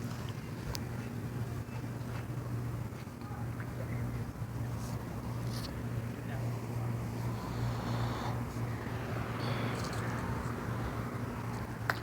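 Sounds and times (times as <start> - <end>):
faint background noise: 0.0 - 12.0
vehicle idling hum: 0.0 - 12.0.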